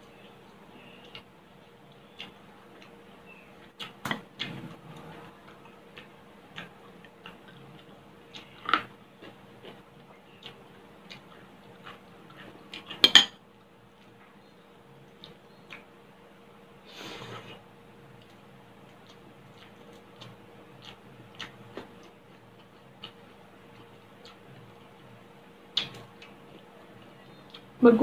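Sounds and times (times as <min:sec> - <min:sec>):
faint steady hum: 0:00.0 - 0:28.0
chewing crispy food: 0:00.5 - 0:15.9, 0:17.2 - 0:28.0.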